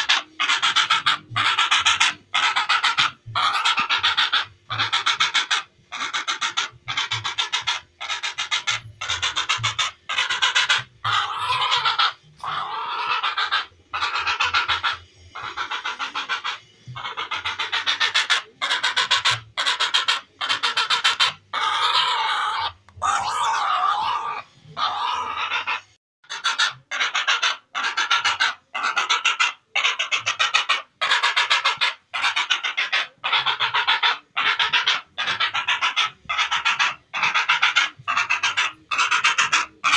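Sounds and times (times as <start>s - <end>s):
heron rattling calls: 0.0s - 39.9s.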